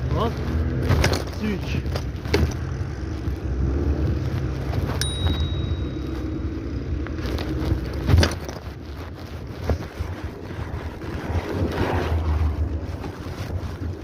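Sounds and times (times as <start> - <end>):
skateboard wheels rolling on pavement: 0.0 - 14.0.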